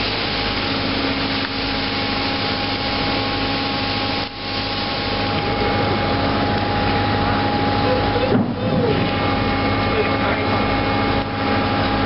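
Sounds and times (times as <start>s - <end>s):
constant whine: 0.0s - 12.0s
machinery droning: 0.0s - 12.0s.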